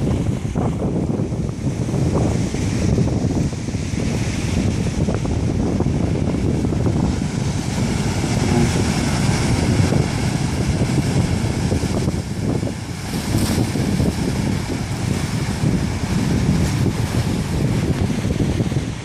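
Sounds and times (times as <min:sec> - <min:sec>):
rushing water: 0:00.0 - 0:19.0
wind buffeting the microphone: 0:00.0 - 0:19.0.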